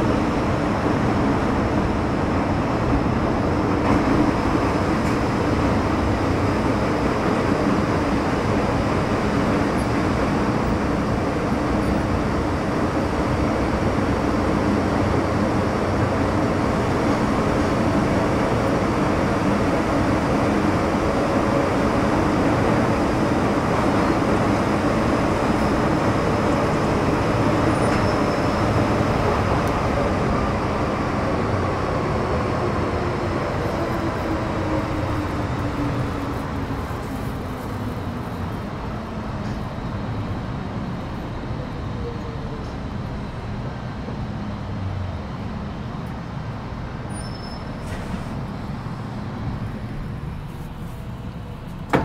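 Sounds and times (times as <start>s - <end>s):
train running noise: 0.0s - 52.0s.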